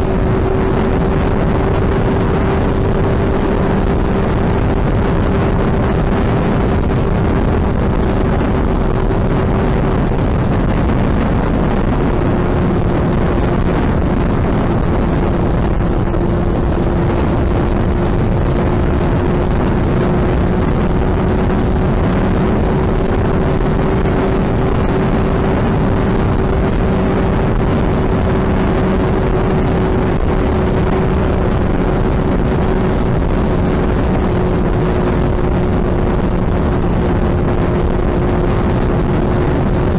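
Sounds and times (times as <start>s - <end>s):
motorcycle engine at steady speed: 0.0s - 39.9s
wind noise on microphone: 0.0s - 39.9s.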